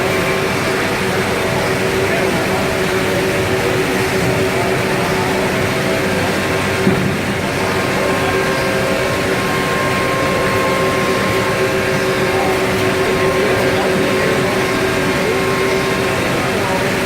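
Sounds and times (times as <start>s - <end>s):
router machine drone and whine: 0.0s - 17.0s.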